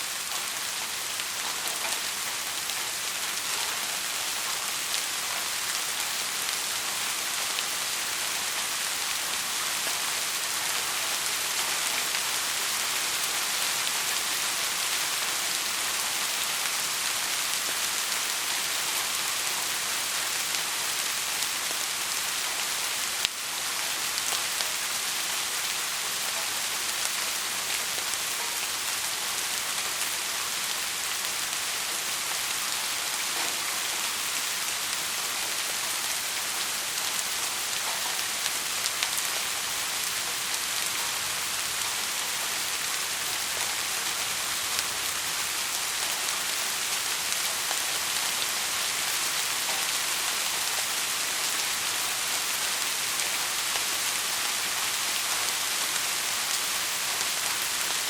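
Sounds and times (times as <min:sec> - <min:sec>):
heavy rain on a surface: 0:00.0 - 0:58.0.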